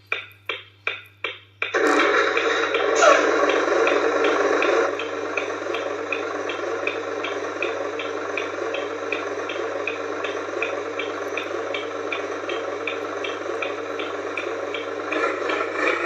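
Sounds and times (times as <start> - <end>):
simulated diesel engine idling: 1.8 - 16.0.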